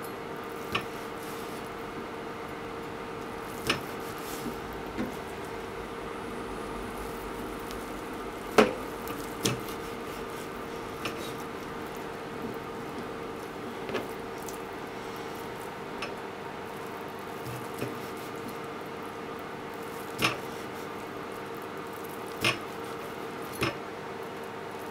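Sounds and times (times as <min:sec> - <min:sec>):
steady background hum: 0:00.0 - 0:24.9.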